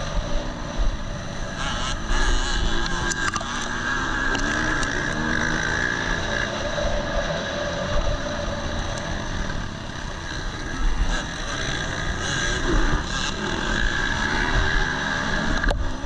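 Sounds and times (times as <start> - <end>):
motocross engine revving: 0.0 - 16.0
wind rushing over camera: 0.0 - 16.0.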